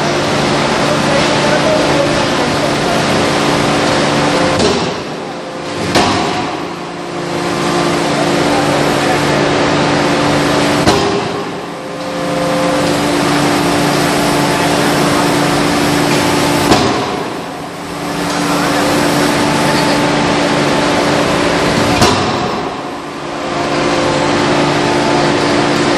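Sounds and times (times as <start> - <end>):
machine drone: 0.0 - 25.9.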